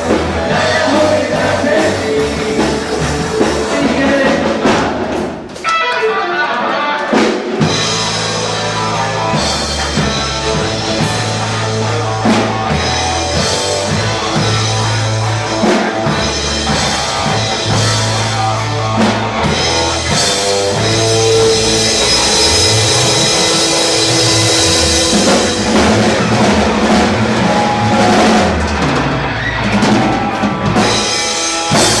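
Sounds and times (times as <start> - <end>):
bass guitar: 0.0 - 32.0
drum kit: 0.0 - 32.0
electric guitar: 0.0 - 32.0.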